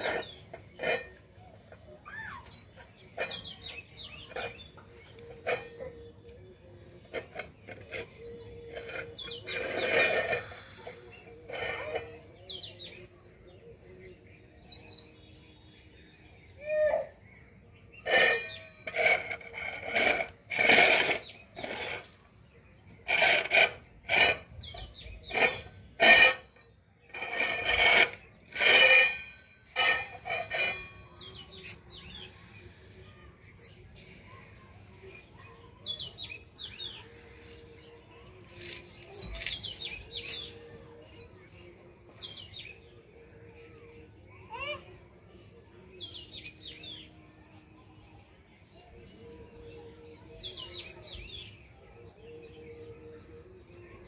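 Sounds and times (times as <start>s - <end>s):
loud scraping noises: 0.0s - 45.4s
small birds chirping: 0.0s - 54.0s.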